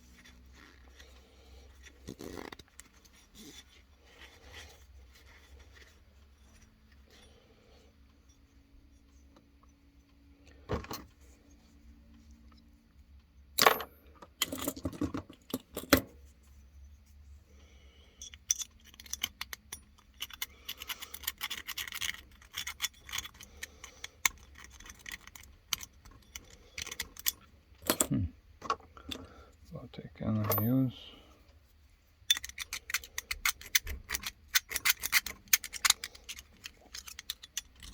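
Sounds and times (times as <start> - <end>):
metallic clinking and scraping: 0.0 - 9.4, 13.6 - 17.2, 18.0 - 29.4, 30.2 - 31.2, 32.2 - 37.9.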